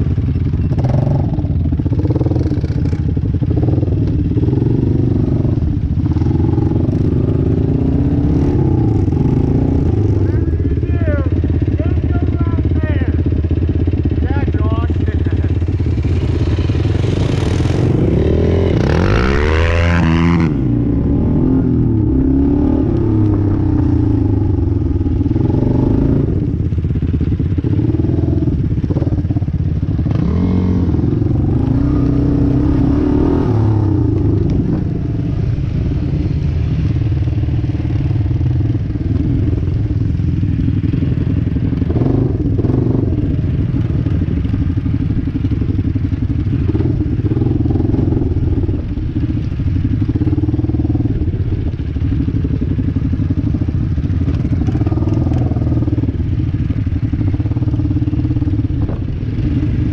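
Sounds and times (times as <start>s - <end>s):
atv engines revving: 0.0s - 59.9s.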